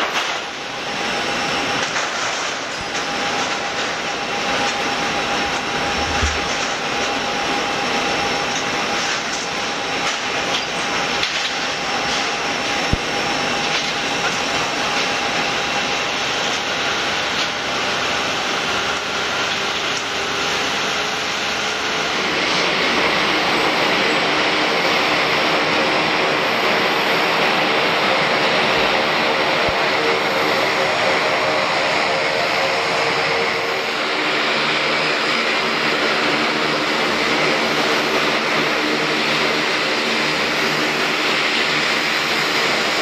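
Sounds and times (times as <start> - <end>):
turboprop engines whining: 0.0 - 43.0.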